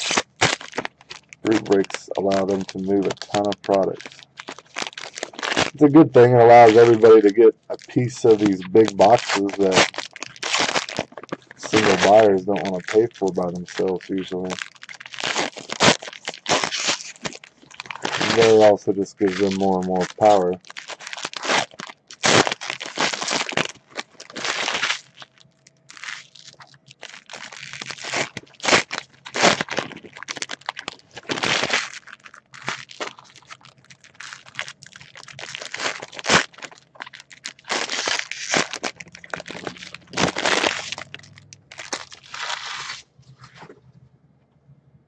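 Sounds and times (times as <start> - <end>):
wrappers tearing and crinkling: 0.0 - 43.7.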